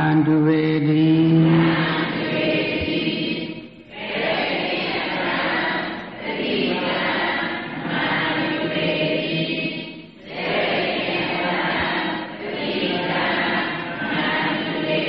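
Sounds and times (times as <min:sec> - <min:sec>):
voices chanting together: 0:00.0 - 0:15.0.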